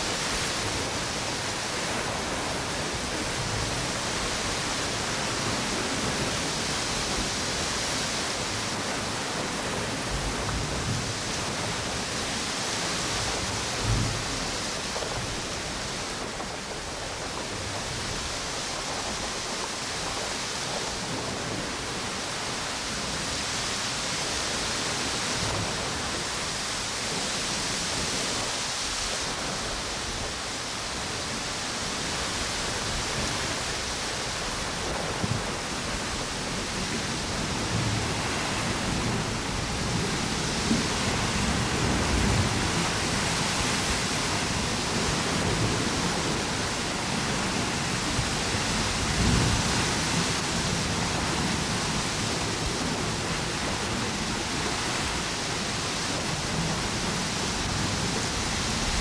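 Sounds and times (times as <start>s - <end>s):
ocean waves on a beach: 0.0s - 59.0s
wind gusts buffeting microphone: 0.0s - 59.0s.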